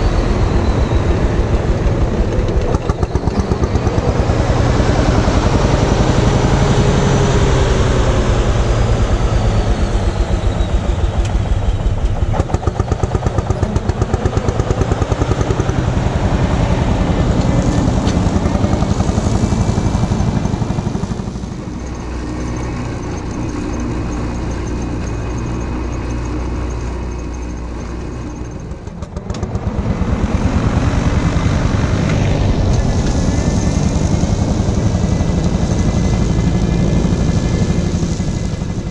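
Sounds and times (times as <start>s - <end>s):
two-stroke tractor engine running: 0.0s - 38.9s.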